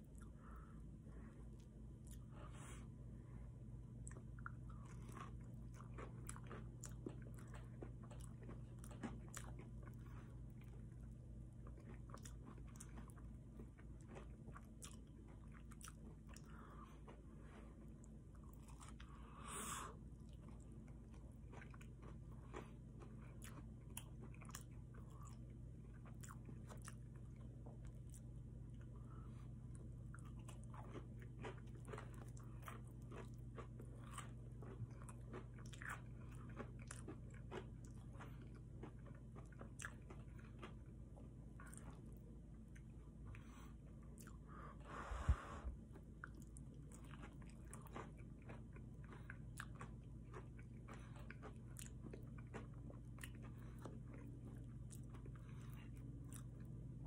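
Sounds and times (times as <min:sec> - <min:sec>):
low steady hum: 0:00.0 - 0:57.0
crunchy chewing clicks: 0:04.0 - 0:17.2, 0:20.2 - 0:28.9, 0:29.7 - 0:44.4, 0:45.9 - 0:56.8.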